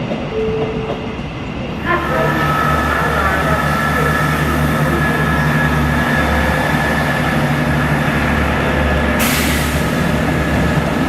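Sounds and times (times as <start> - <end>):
train low hum: 0.0 - 11.0.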